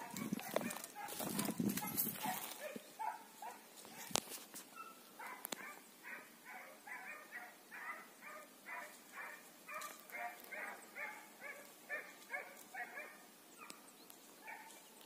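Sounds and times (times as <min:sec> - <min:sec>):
hounds baying and barking: 0:00.0 - 0:13.8, 0:14.4 - 0:14.8.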